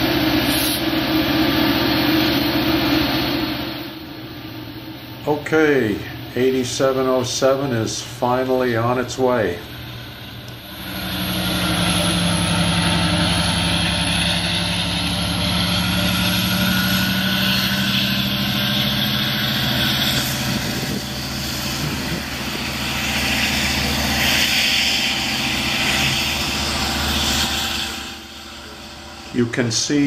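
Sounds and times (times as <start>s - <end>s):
locomotive engine drone: 0.0s - 30.0s
rumbling wheel and track noise: 0.0s - 30.0s.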